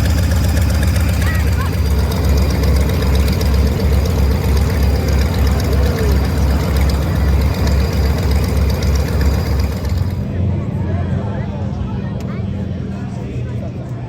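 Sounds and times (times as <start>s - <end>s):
aircraft radial engine idling: 0.0s - 14.0s.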